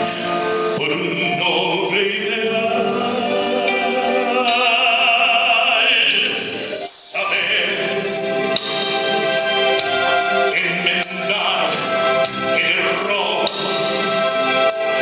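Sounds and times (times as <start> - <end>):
man singing into microphone: 0.0 - 8.8, 10.3 - 14.6
musical accompaniment: 0.0 - 15.0.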